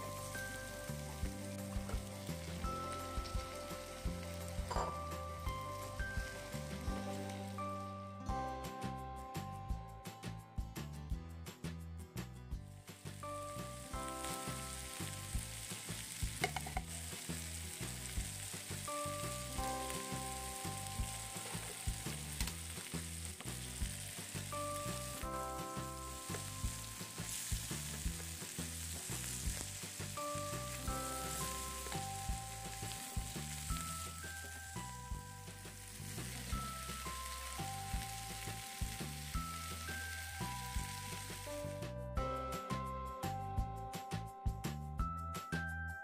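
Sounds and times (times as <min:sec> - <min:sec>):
food sizzling in a frying pan: 0:00.0 - 0:07.9, 0:12.9 - 0:41.8
soft background music: 0:00.0 - 0:46.0.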